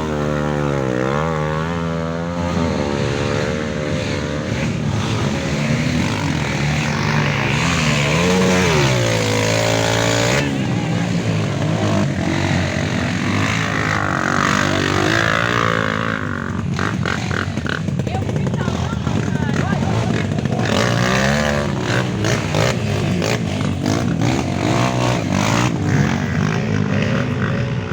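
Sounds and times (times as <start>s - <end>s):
motorcycle engines revving: 0.0s - 27.9s.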